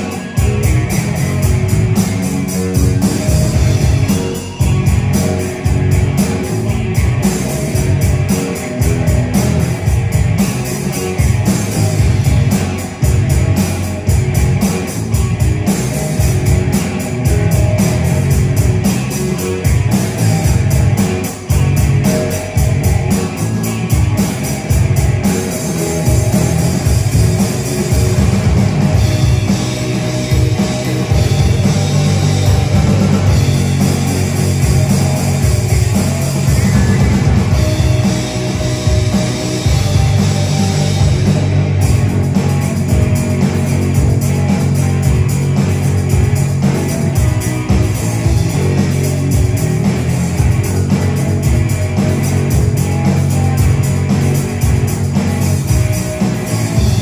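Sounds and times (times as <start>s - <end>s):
instrumental rock band playing: 0.0s - 57.0s.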